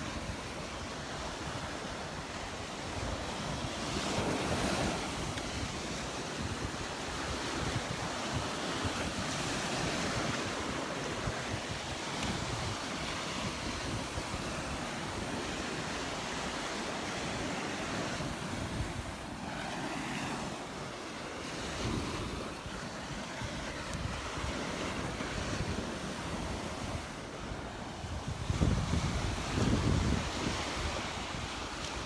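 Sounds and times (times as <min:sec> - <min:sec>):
surf washing onto beach: 0:00.0 - 0:32.0
wind gusting on microphone: 0:00.0 - 0:32.0.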